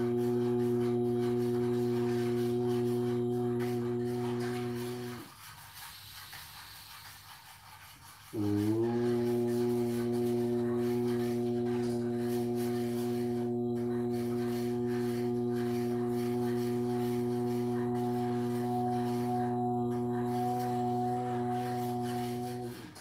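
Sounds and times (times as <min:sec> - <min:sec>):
man chanting a low note: 0:00.0 - 0:05.3, 0:08.4 - 0:23.0.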